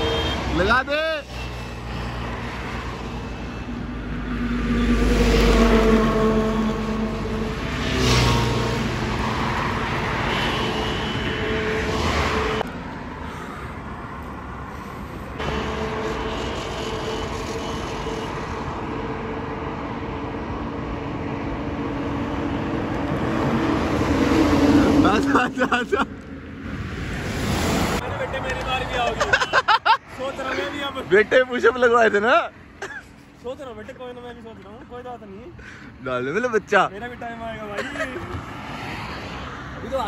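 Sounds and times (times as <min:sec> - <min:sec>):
highway traffic passing: 0:00.0 - 0:40.0.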